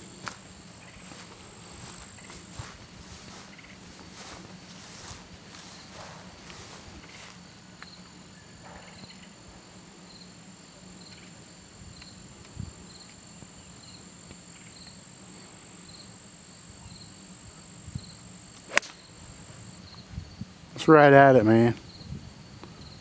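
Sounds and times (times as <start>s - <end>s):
faint high whine: 0.0s - 23.0s
insects chirping: 0.0s - 23.0s.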